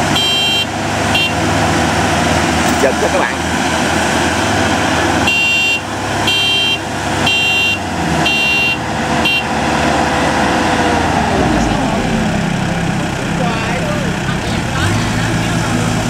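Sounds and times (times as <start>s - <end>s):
heavy machine engines under load: 0.0s - 16.0s.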